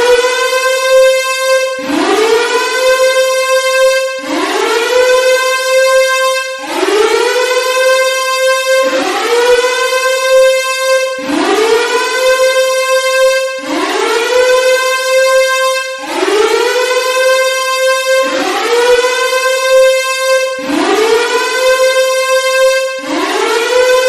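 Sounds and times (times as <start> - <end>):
air-raid siren wailing: 0.0 - 24.0.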